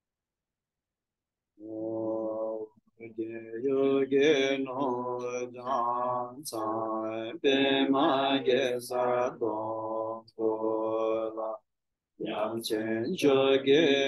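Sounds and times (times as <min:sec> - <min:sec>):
man chanting in low voice: 0:01.6 - 0:14.0.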